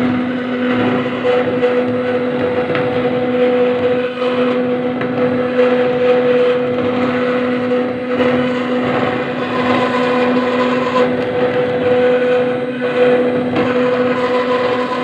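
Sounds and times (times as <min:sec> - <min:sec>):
bit grinding stone: 0:00.0 - 0:15.0
spindle motor humming: 0:00.0 - 0:15.0.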